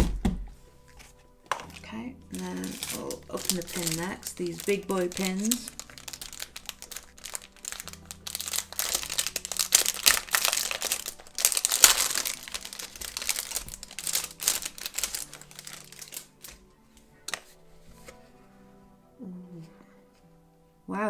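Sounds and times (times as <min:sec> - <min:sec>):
crinkly packaging rustling: 0:00.8 - 0:18.3.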